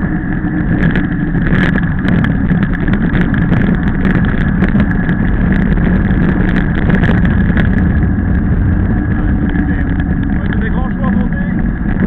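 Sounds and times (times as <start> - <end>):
bike clicks and rattles: 0.0 - 12.0
wind and tyre noise: 0.0 - 12.0.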